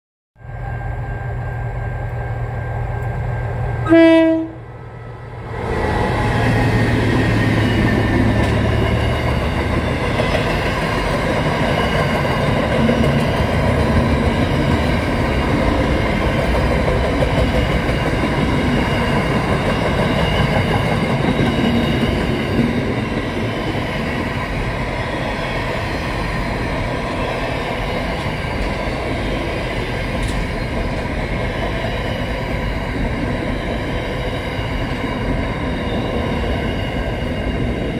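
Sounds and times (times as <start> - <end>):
diesel locomotive engine rumble: 0.4 - 37.9
train wheels rumbling on rail: 0.5 - 37.9.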